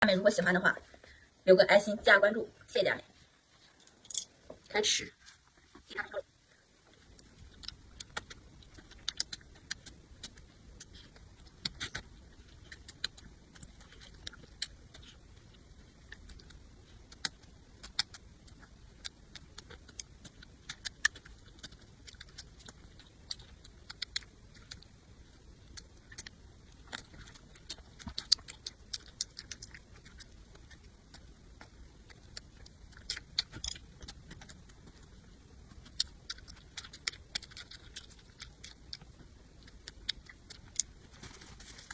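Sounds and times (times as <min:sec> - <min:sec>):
food crunching while chewed: 0:06.8 - 0:41.9.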